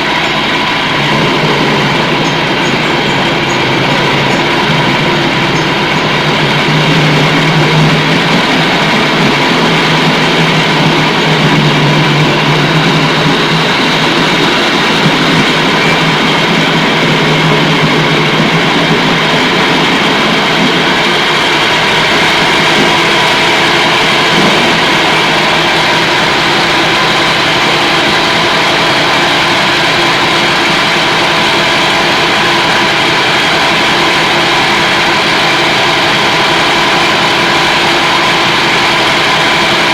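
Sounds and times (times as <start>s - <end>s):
low hum: 0.0s - 39.9s
meat grinder drone: 0.0s - 39.9s.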